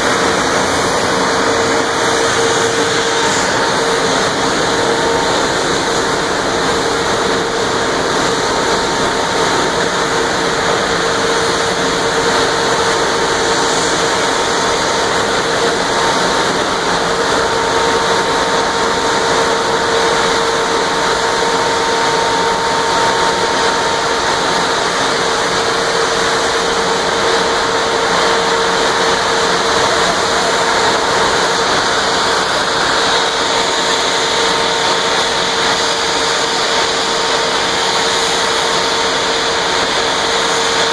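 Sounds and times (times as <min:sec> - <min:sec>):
constant hum: 0:00.0 - 0:40.9
industrial rushing noise: 0:00.0 - 0:40.9.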